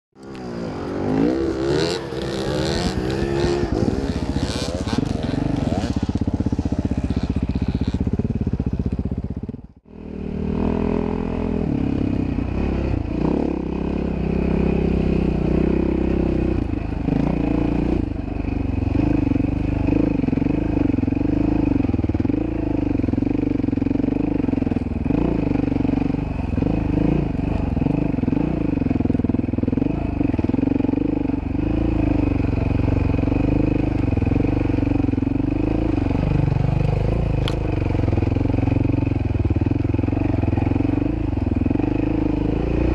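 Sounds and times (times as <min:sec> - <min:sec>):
dirt bike engine revving: 0:00.2 - 0:42.9.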